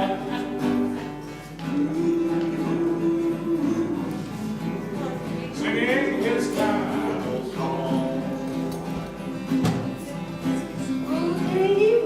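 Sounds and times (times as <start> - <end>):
acoustic guitar strumming: 0.0 - 12.0
person singing: 1.4 - 12.0.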